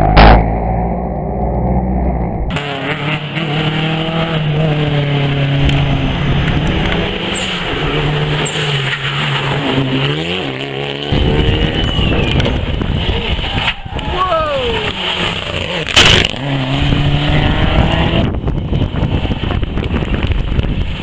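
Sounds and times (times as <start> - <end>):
rally car engine revving hard: 2.5 - 13.7, 14.6 - 21.0.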